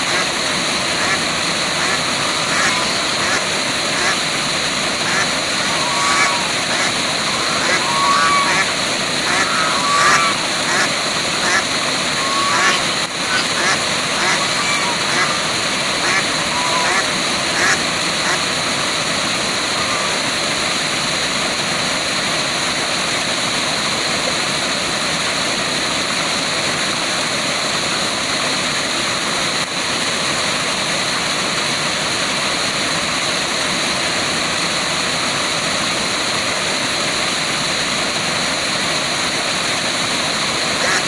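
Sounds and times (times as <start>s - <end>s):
waterfall: 0.0s - 41.0s.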